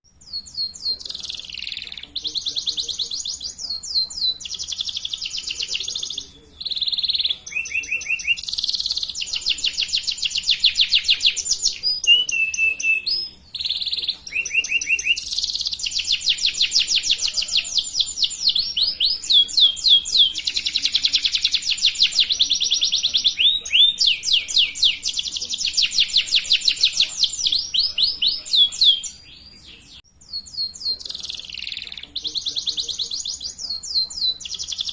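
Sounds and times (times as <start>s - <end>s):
canary singing rapid trills: 0.1s - 34.9s.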